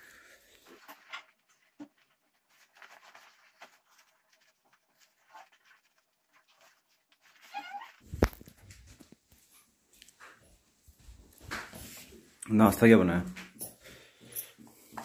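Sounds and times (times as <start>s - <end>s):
clothing rustling: 0.0s - 12.4s.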